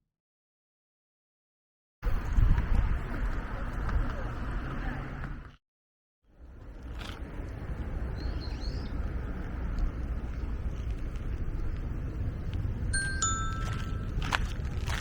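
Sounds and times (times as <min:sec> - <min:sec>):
wind rumble on microphone: 0:02.0 - 0:05.5, 0:06.4 - 0:15.0.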